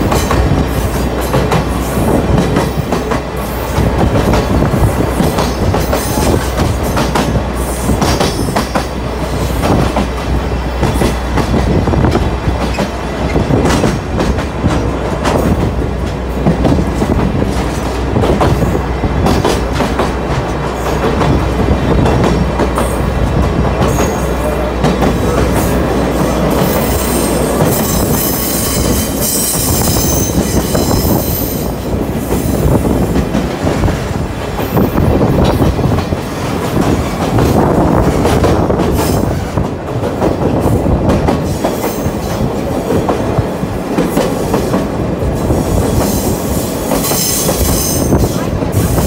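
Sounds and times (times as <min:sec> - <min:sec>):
rail joint clacks: 0:00.0 - 0:49.0
train wheels rumbling on rail: 0:00.0 - 0:49.0.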